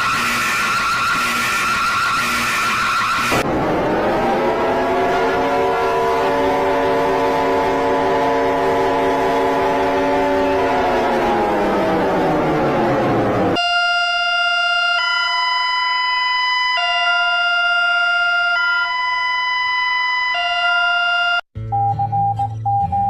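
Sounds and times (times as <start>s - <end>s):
siren-like wail sliding down: 0.0s - 21.4s
beeping alarm tone: 0.0s - 23.0s
two-tone alarm: 0.0s - 23.0s.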